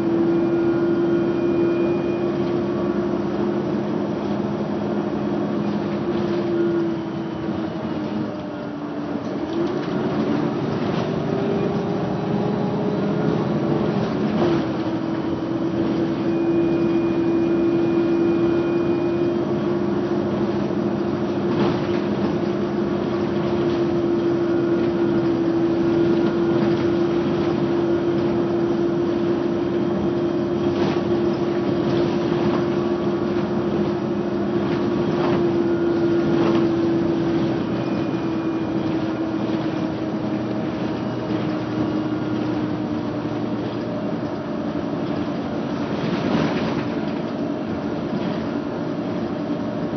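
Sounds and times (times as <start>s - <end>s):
bus engine droning whine: 0.0s - 49.9s
road rumble: 0.0s - 49.9s.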